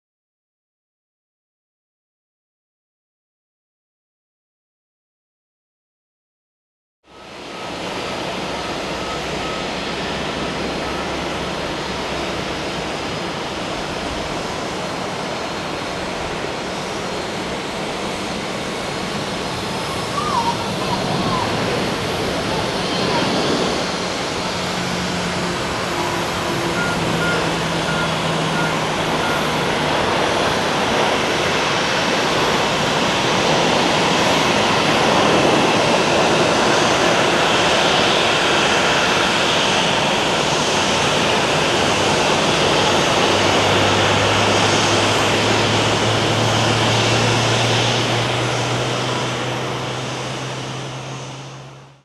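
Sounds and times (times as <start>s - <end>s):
low engine hum: 7.1s - 38.7s, 39.3s - 52.0s
jet engine rushing: 7.2s - 52.0s.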